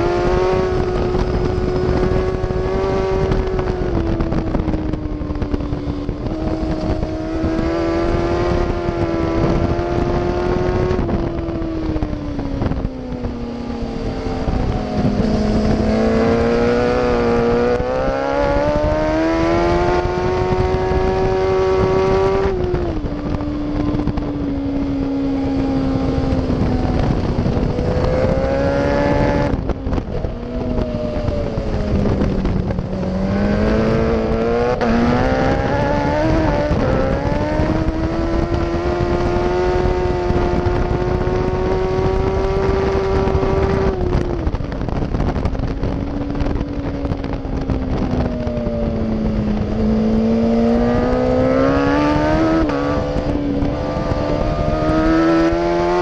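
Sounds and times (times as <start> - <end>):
motorcycle engine running hard: 0.0 - 56.0
wind rushing over microphone: 0.0 - 56.0.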